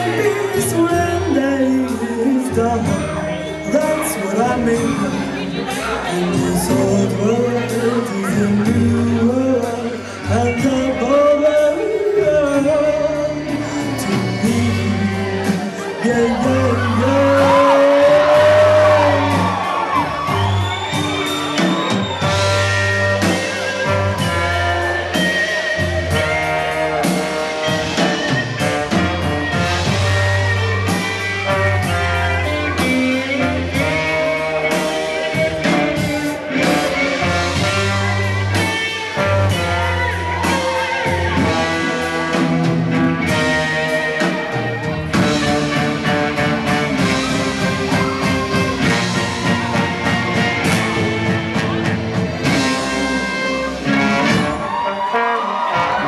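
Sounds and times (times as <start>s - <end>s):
guitar: 0.0s - 56.0s
live band music: 0.0s - 56.0s
low bass notes: 0.0s - 56.0s.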